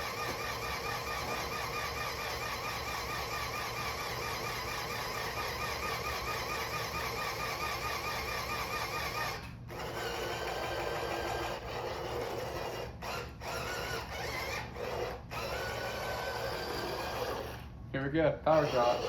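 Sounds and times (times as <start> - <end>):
toy car electric motors whirring: 0.0 - 17.7, 18.5 - 19.0.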